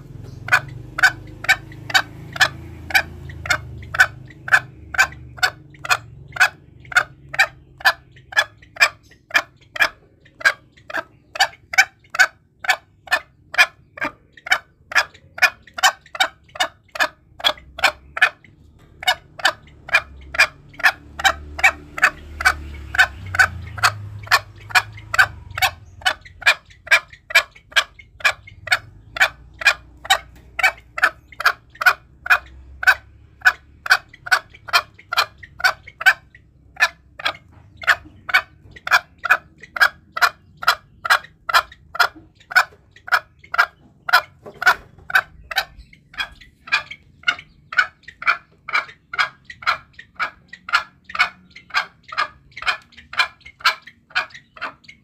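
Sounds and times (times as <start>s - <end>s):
faint low rumble: 0.0s - 54.9s
junglefowl clucking calls: 0.0s - 55.0s.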